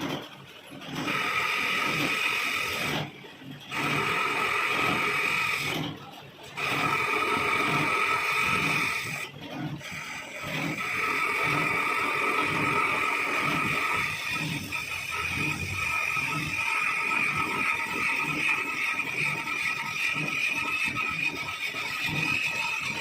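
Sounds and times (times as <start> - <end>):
lathe cutting with high whine: 0.9 - 23.0.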